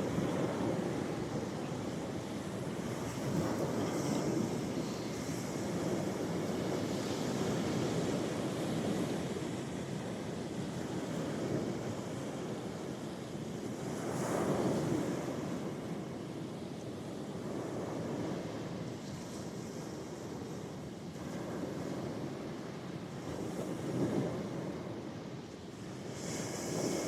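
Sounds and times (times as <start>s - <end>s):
ocean waves washing ashore: 0.0s - 27.0s.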